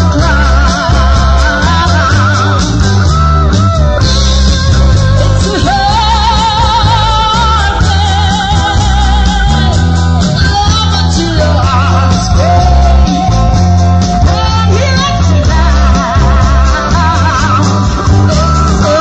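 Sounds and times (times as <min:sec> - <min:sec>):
booming bass: 0:00.0 - 0:19.0
electric guitars: 0:00.0 - 0:19.0
person singing with vibrato: 0:00.0 - 0:19.0.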